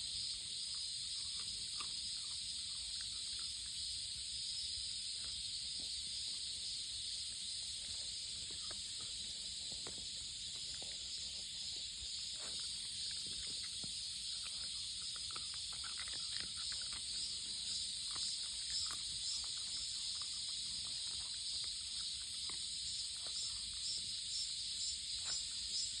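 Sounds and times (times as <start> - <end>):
insects chorus: 0.0 - 26.0.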